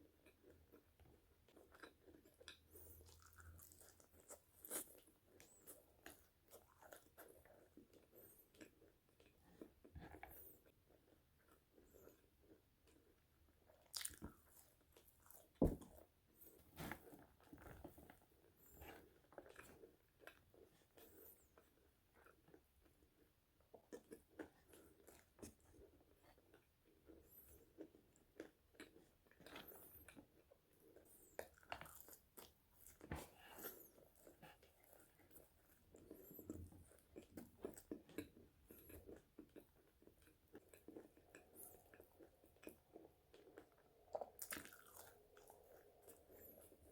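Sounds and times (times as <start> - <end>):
chewing crispy fries: 0.0 - 16.5, 17.4 - 46.9.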